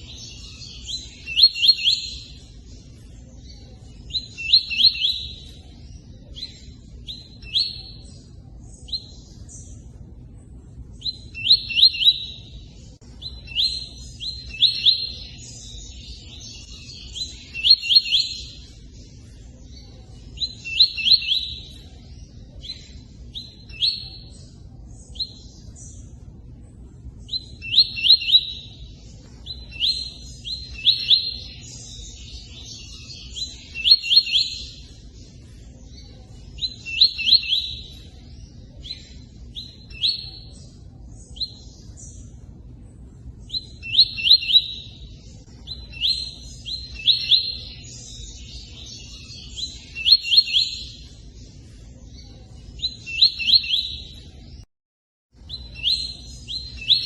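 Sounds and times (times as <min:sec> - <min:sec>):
songbird singing: 0:00.0 - 0:54.7, 0:55.3 - 0:57.0.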